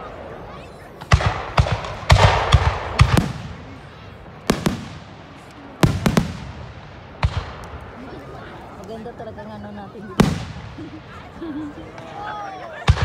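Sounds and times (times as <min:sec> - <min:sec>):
fireworks bursting with echo: 0:00.0 - 0:09.1, 0:09.8 - 0:13.0.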